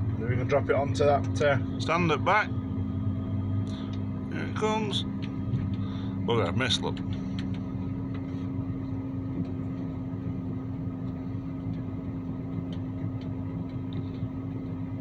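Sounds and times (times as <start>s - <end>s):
harvester engine droning: 0.0s - 15.0s.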